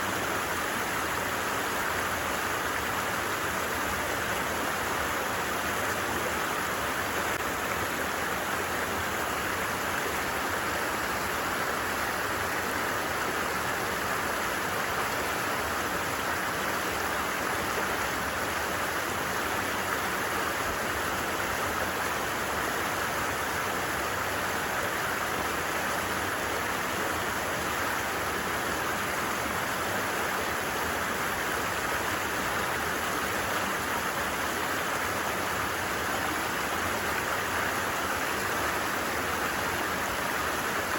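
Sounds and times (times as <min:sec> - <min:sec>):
stream rushing and babbling: 0:00.0 - 0:40.9.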